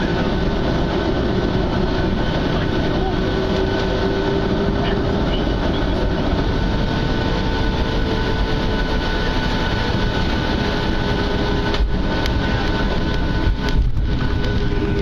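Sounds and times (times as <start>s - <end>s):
jet engines rumbling in cabin: 0.0s - 15.0s
whining tones: 0.0s - 15.0s.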